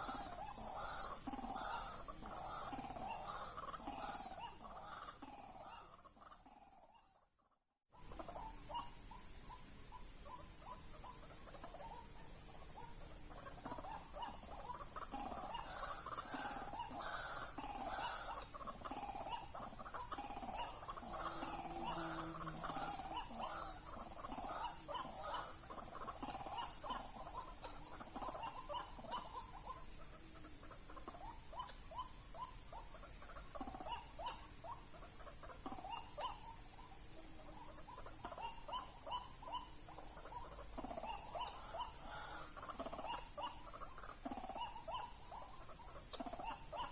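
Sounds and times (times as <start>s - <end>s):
waterhens calling: 0.0s - 6.7s, 8.0s - 46.9s.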